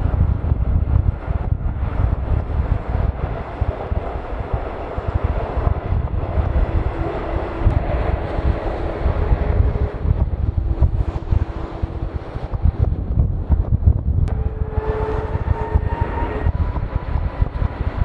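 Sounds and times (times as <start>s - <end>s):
jet engines roaring: 0.0s - 18.0s
wind buffeting microphone: 0.0s - 18.0s.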